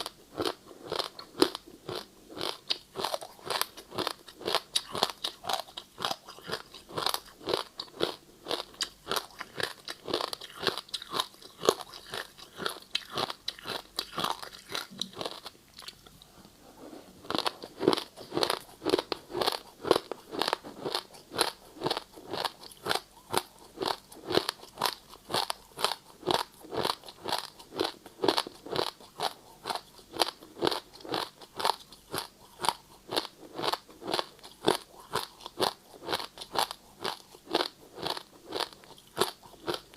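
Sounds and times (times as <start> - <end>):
ice crunching while chewed: 0.0 - 16.2, 17.2 - 39.9.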